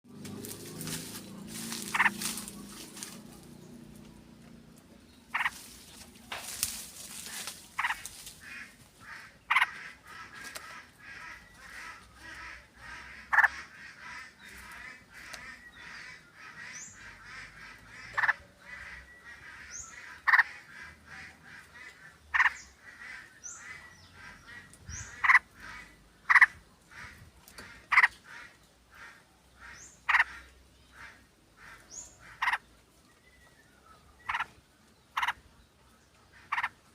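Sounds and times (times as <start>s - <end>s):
background bird chatter: 0.1s - 36.9s
bulbuls calling: 0.1s - 36.9s.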